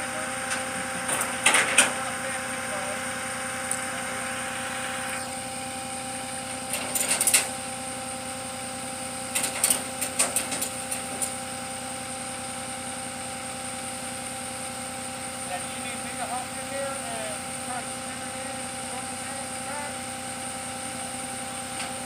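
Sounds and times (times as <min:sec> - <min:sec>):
truck mechanical hum: 0:00.0 - 0:22.0.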